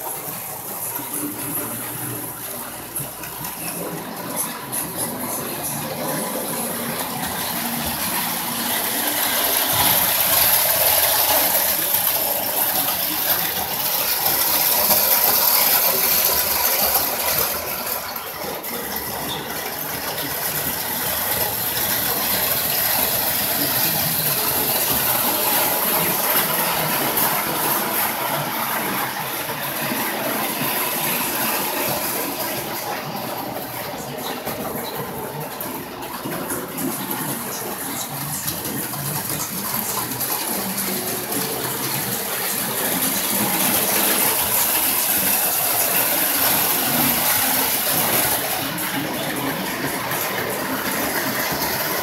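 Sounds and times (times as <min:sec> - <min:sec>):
toy train whirring and rattling: 0:00.0 - 0:52.0.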